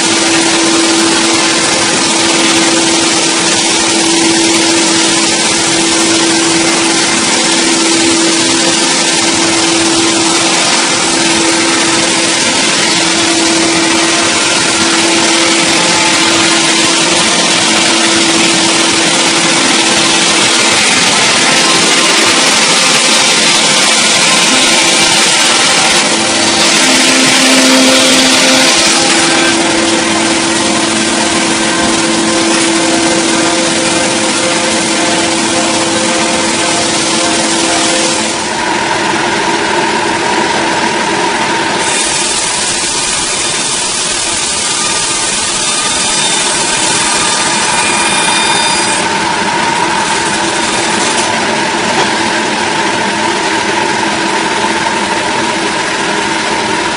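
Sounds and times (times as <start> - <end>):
engine-driven saw cutting log: 0.0 - 56.9.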